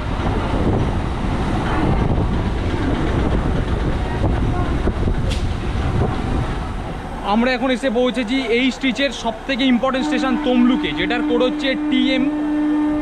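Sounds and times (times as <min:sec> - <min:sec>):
train coaches rumbling: 0:00.0 - 0:13.0
wind buffeting microphone: 0:00.0 - 0:13.0.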